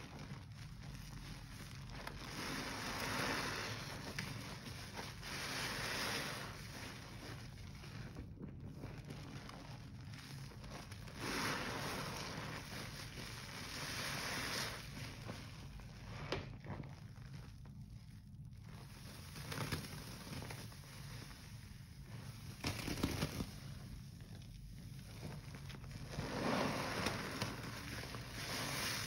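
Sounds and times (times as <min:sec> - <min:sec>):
slurry pouring off sponge: 0:00.0 - 0:29.0
wet sponge squishing: 0:00.0 - 0:29.0.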